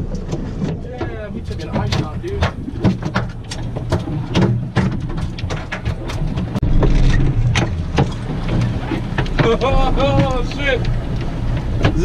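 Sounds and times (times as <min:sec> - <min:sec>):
short irregular knocks: 0:00.0 - 0:12.0
wind rumbling on microphone: 0:00.0 - 0:12.0.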